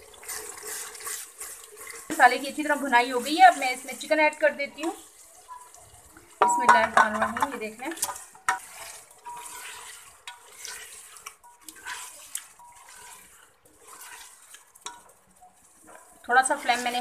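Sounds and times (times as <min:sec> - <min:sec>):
oil sizzling: 0:00.0 - 0:17.0
spatula scraping metal pot: 0:00.2 - 0:17.0.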